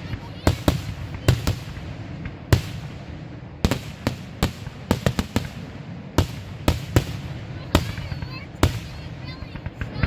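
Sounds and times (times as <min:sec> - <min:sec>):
fireworks bangs: 0:00.0 - 0:10.0
low continuous rumble: 0:00.0 - 0:10.0.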